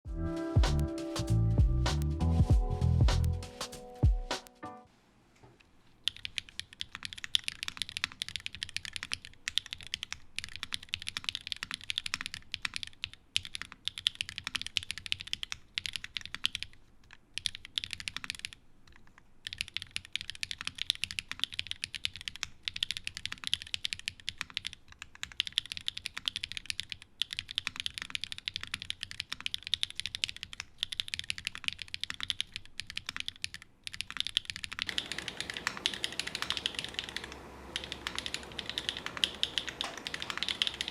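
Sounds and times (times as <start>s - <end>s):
fast typing on mechanical keyboard: 6.0s - 40.9s.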